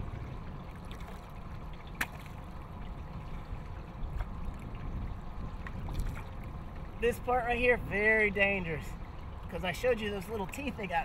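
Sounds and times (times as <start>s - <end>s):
water lapping against boat: 0.0s - 11.0s.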